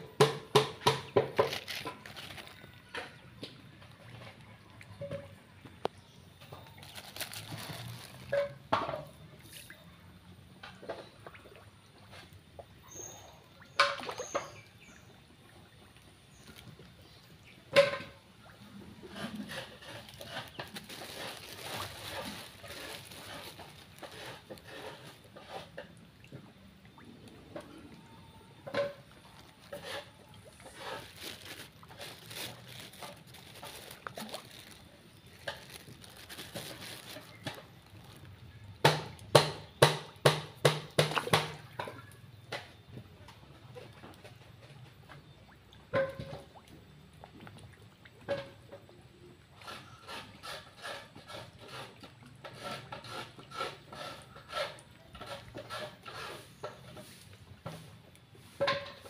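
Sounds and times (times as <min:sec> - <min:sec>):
water sloshing and splashing: 0:00.0 - 0:59.0.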